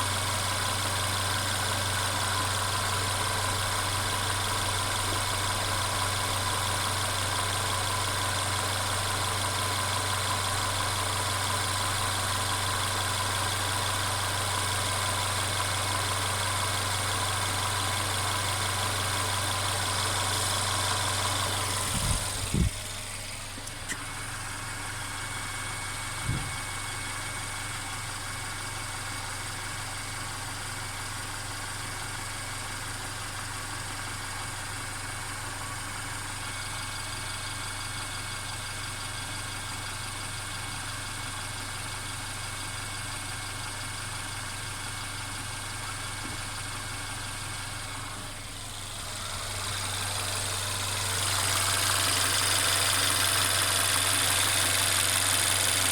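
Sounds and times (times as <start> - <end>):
car engine idling: 0.0 - 55.9
engine rattling: 0.0 - 55.9.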